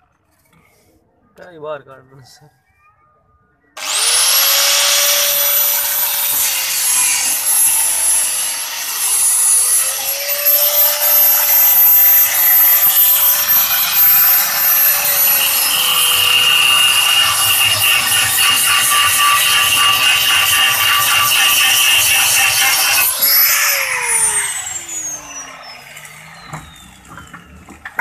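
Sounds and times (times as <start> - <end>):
angle grinder cutting metal: 3.8 - 28.0.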